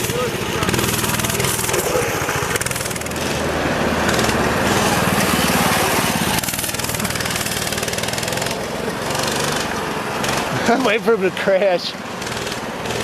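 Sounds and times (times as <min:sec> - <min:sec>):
small engine buzzing: 0:00.0 - 0:11.0, 0:12.0 - 0:13.0.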